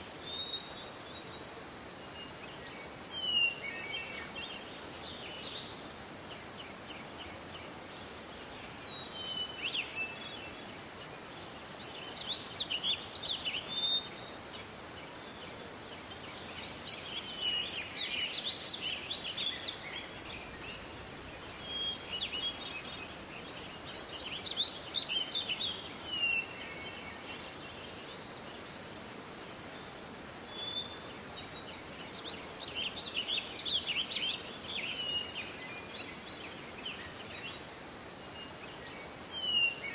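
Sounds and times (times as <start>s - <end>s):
songbirds chirping: 0.0s - 39.9s
steady background hiss: 0.0s - 39.9s.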